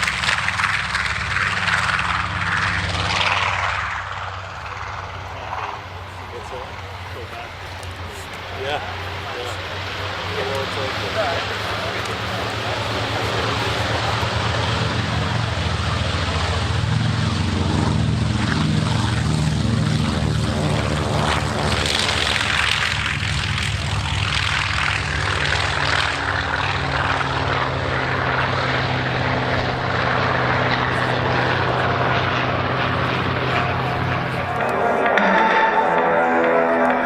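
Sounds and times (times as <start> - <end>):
propeller plane flying past: 0.0 - 37.0.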